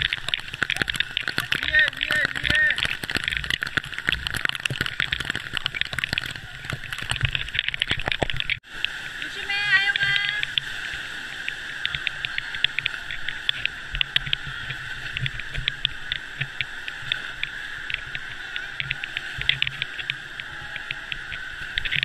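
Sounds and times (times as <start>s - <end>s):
water surging and splashing: 0.0s - 22.0s.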